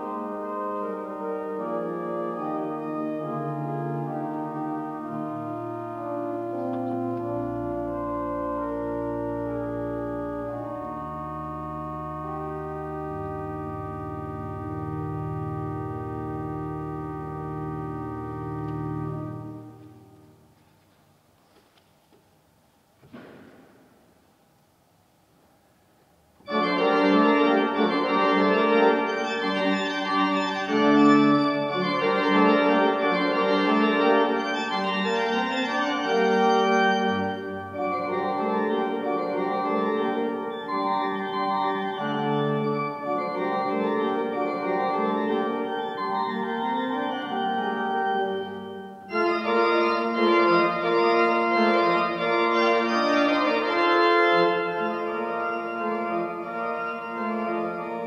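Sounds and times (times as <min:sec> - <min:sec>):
deep organ pedal notes: 0:00.0 - 0:20.5, 0:26.5 - 0:58.0
pipe organ chords: 0:00.0 - 0:20.6, 0:26.4 - 0:58.0.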